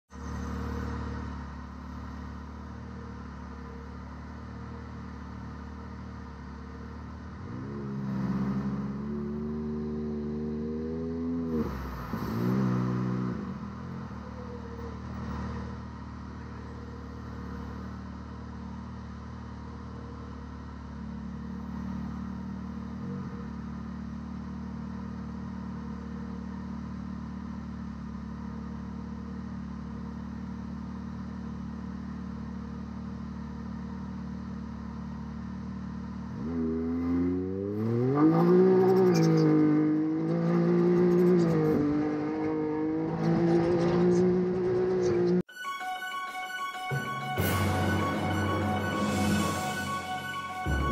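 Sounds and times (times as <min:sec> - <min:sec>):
engine idling and revving: 0:00.0 - 0:45.5, 0:46.9 - 0:50.9.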